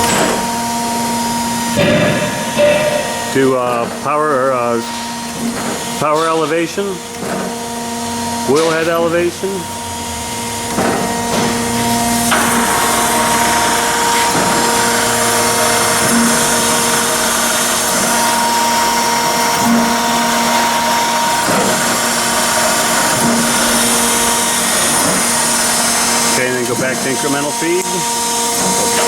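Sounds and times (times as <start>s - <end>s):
grinder machine hum and whine: 0.0s - 29.0s.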